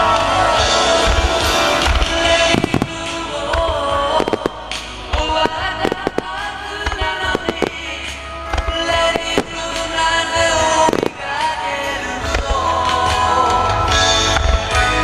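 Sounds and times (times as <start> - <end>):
recorded music: 0.0 - 15.0
fireworks bangs and crackles: 0.2 - 13.2.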